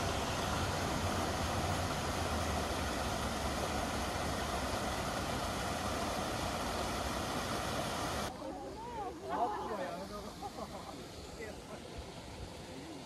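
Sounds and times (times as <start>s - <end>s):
water rushing over cascade: 0.0s - 13.0s.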